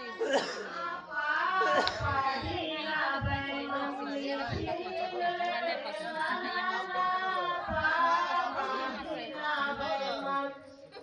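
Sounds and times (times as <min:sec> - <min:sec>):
chatter: 0:00.0 - 0:11.0
women singing together: 0:00.0 - 0:11.0.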